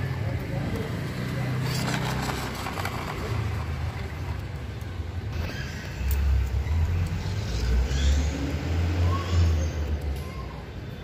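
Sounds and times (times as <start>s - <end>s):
toy trucks rolling on concrete: 0.3s - 10.2s.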